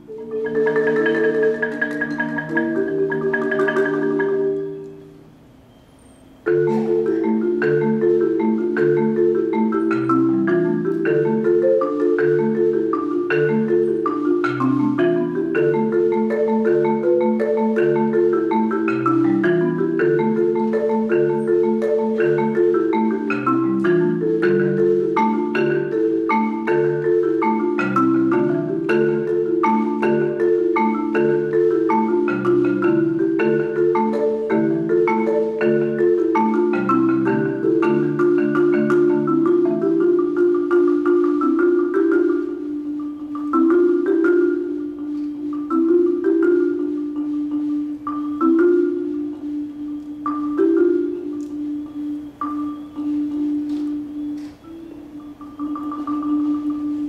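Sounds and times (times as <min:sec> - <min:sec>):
marimba solo: 0:00.0 - 0:57.0.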